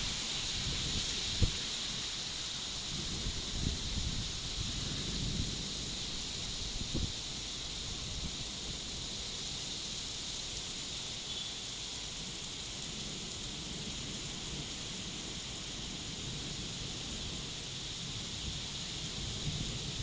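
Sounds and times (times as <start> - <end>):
low rumble of wind: 0.0 - 11.1, 12.0 - 20.0
steady rain hiss: 0.0 - 20.0.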